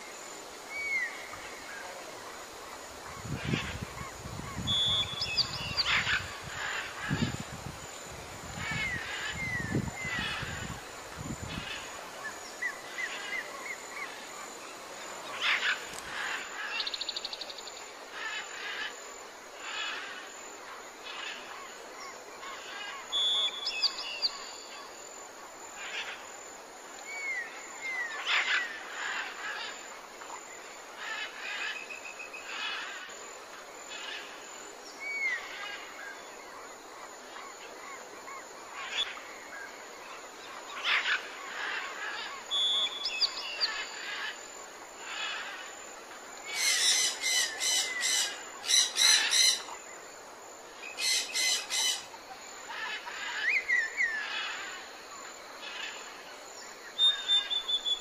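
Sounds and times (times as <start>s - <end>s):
steady outdoor hiss: 0.0s - 58.0s
wild birds chirping and calling: 0.5s - 25.0s, 25.7s - 26.4s, 27.0s - 58.0s.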